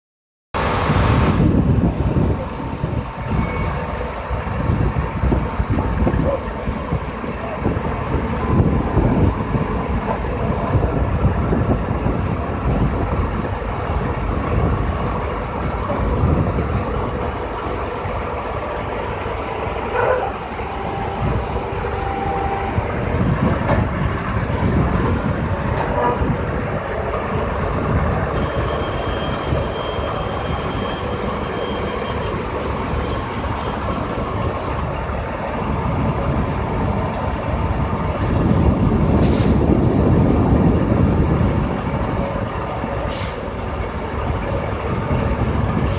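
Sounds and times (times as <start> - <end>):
truck crane engine running: 0.6 - 45.9.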